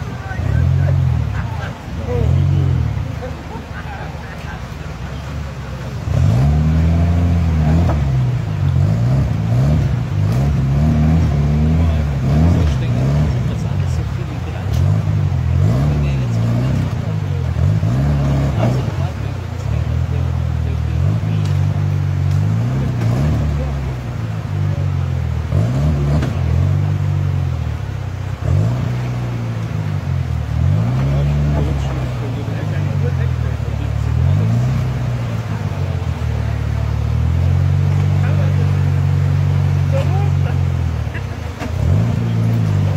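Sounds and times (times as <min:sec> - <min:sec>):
buggy engine revving hard: 0:00.0 - 0:42.9.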